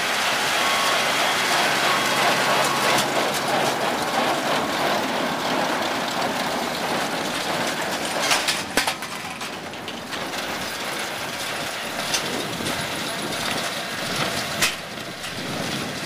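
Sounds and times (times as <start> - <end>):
baler machinery rattling: 0.1 - 16.0.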